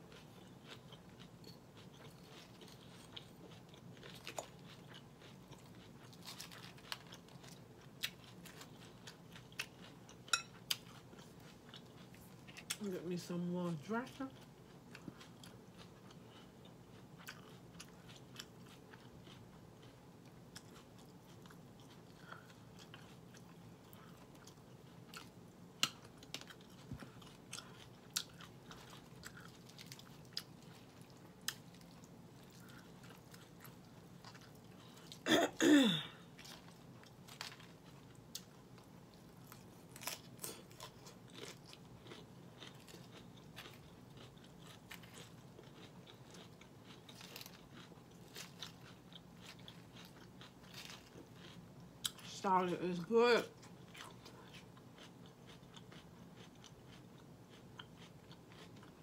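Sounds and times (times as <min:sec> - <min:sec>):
chewing and crunching salad: 0:00.0 - 0:35.3, 0:35.9 - 0:59.0.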